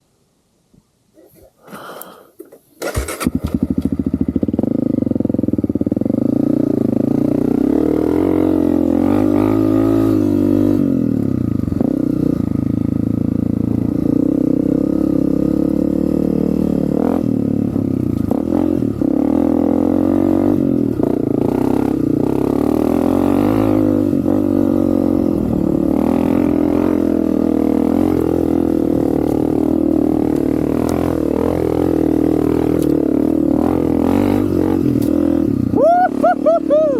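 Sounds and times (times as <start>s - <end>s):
dirt bike engine starting and revving: 1.8s - 36.9s.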